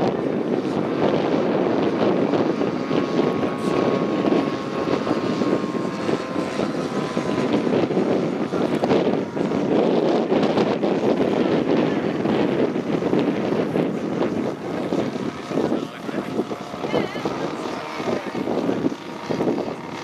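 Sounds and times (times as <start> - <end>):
model plane engine whine: 0.0 - 20.0
wind noise on microphone: 0.0 - 20.0.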